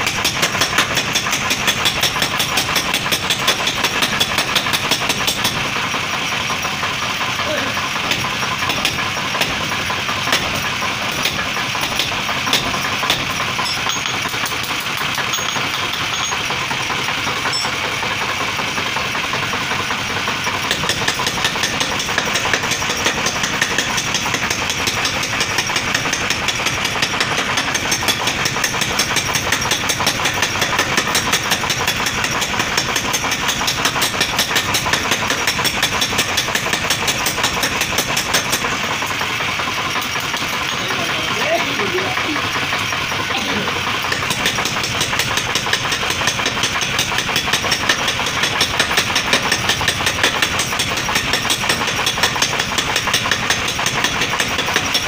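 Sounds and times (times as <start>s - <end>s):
power hammer pounding steel: 0.0s - 55.0s.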